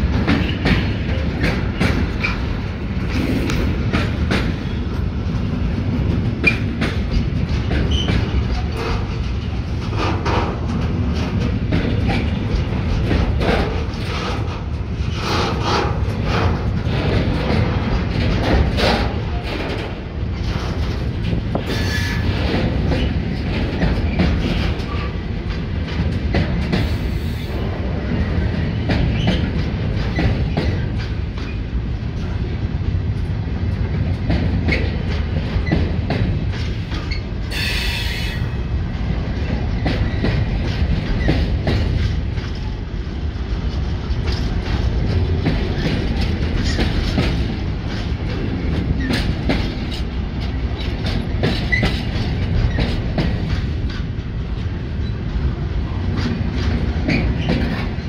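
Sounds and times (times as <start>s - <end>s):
freight train rumbling past: 0.0s - 58.0s
wheels clacking over rail joints: 0.0s - 58.0s.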